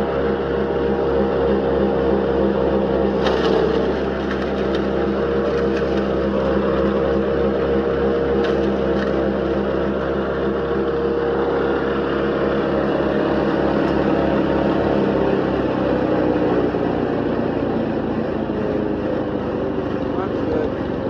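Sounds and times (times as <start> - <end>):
gasoline engine running: 0.0 - 21.0
wood chipper: 0.0 - 21.0.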